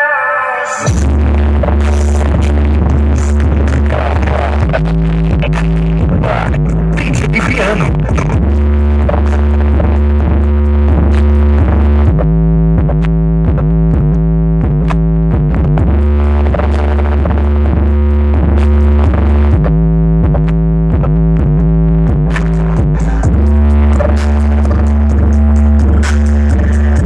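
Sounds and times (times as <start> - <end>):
electronic music on car stereo: 0.5 - 27.0.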